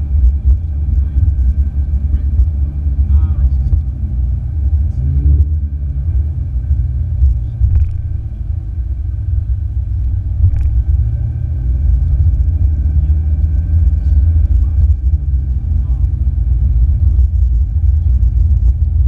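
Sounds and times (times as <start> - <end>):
car engine rumble from cabin: 0.0 - 19.0
faint thin whine: 0.0 - 19.0
road noise: 0.0 - 19.0.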